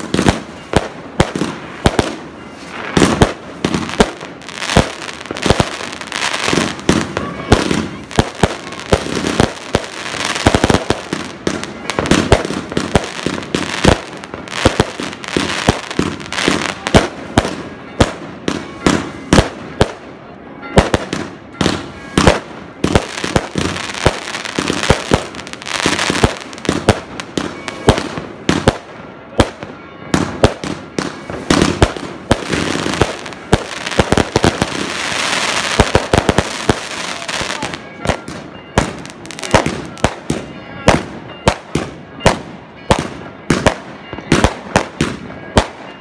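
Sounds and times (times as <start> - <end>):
fireworks banging: 0.0 - 46.0
fireworks crackling: 0.0 - 46.0.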